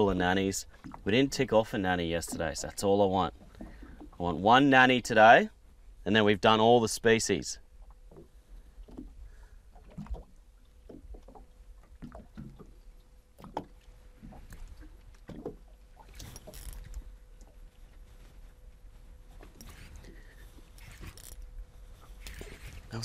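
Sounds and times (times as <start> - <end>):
water lapping against boat hull: 0.0 - 23.0.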